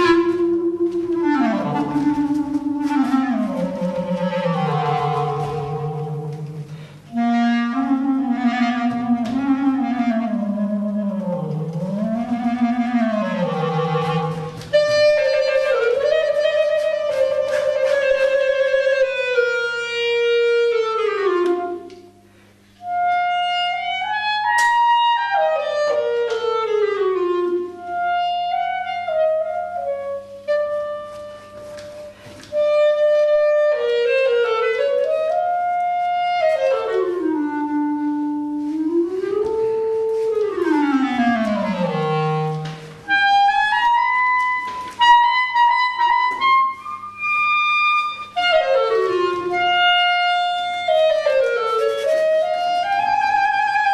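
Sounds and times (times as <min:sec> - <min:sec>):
clarinet improvising: 0:00.0 - 0:53.9.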